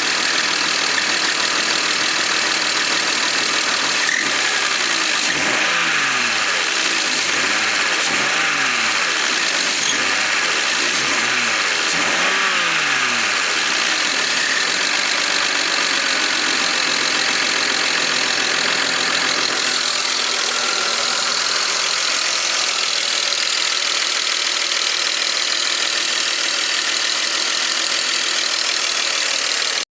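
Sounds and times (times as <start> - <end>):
car engine revving and idling: 0.0 - 29.8
engine ticking: 0.1 - 29.8.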